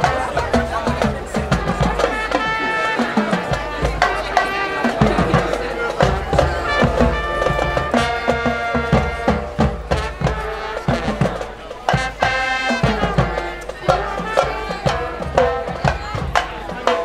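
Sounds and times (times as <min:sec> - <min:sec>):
brass melody: 0:00.0 - 0:17.0
cymbals: 0:00.0 - 0:17.0
marching drums beat: 0:00.0 - 0:17.0.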